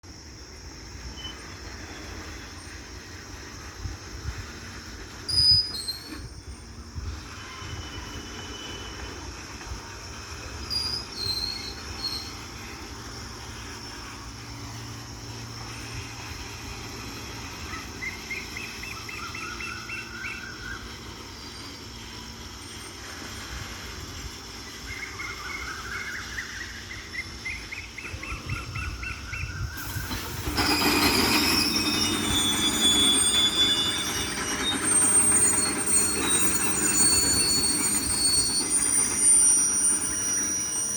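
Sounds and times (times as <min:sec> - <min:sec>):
train brakes squealing: 0:00.1 - 0:40.9.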